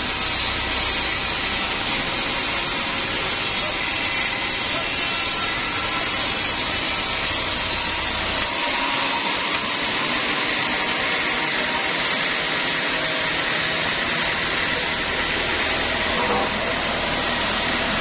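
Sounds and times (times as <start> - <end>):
band saw whirring: 0.0 - 18.0.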